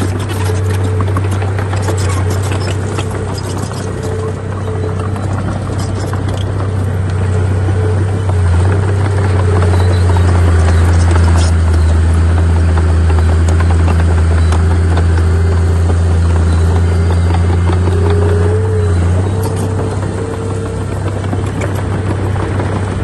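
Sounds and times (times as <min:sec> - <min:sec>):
diesel engine running under load: 0:00.0 - 0:23.0
machinery clanking and rattling: 0:00.0 - 0:23.0.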